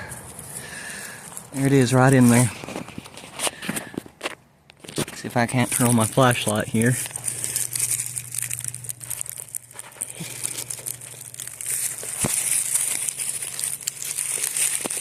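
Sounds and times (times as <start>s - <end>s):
rustling grass and soil by hand: 0.0s - 15.0s.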